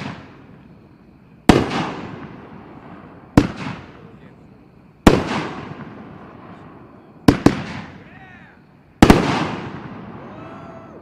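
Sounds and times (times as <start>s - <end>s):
firework bangs with crackle: 0.0s - 4.4s, 5.0s - 11.0s.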